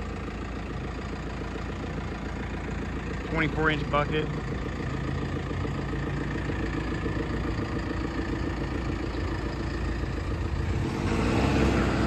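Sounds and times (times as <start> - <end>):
backhoe diesel engine idling: 0.0 - 12.0.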